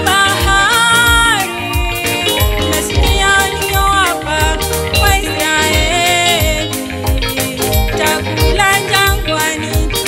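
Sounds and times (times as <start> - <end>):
band with drum and bass: 0.0 - 10.0.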